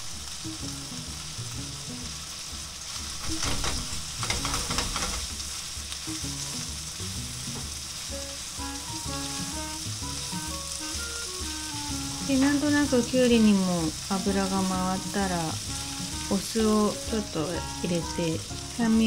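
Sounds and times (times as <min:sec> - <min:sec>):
meat sizzling in a frying pan: 0:00.0 - 0:19.0.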